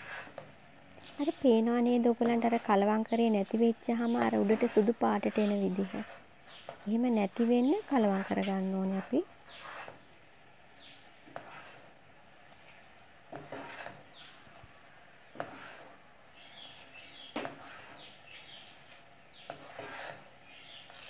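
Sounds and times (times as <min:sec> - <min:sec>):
spoon stirring and scraping pan: 0:00.0 - 0:21.0.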